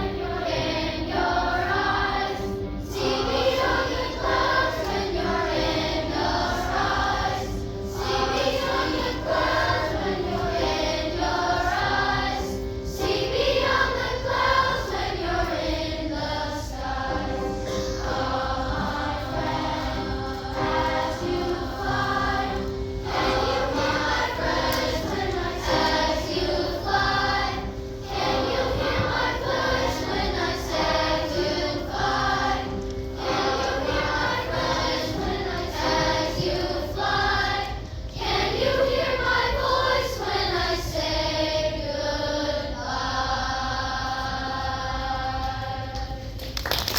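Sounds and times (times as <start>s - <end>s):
choir singing in harmony: 0.0s - 46.5s.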